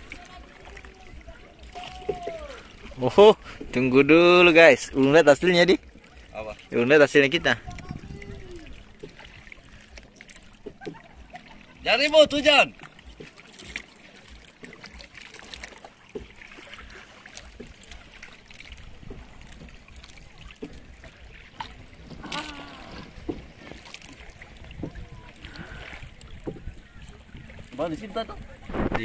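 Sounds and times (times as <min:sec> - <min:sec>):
boat engine low rumble: 0:00.0 - 0:29.0
water rushing: 0:00.0 - 0:29.0.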